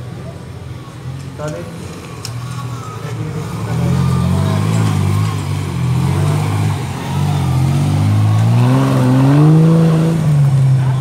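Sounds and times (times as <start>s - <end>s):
buggy engine revving: 0.0s - 11.0s.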